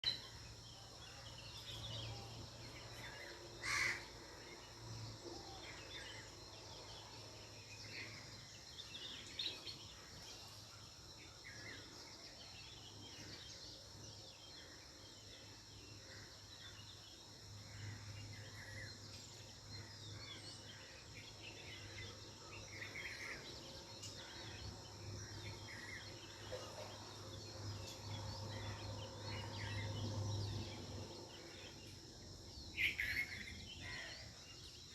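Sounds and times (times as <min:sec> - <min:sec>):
bird chirps: 0:00.0 - 0:34.9
insect drone: 0:00.0 - 0:34.9.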